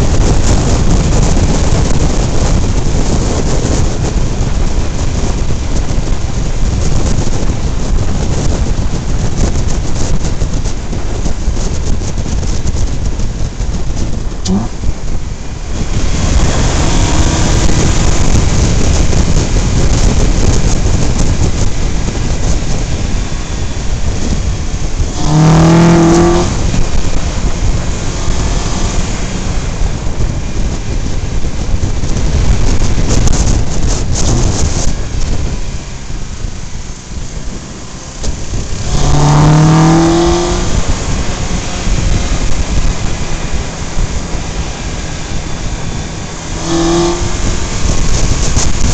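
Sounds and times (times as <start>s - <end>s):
wind rush and road noise: 0.0s - 48.9s.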